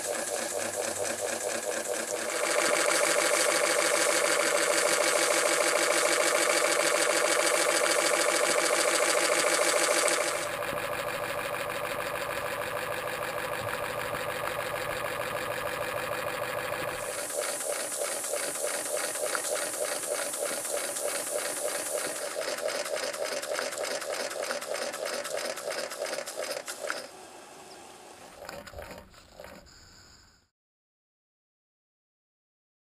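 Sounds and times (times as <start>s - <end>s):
model steam engine clattering: 0.0s - 27.1s.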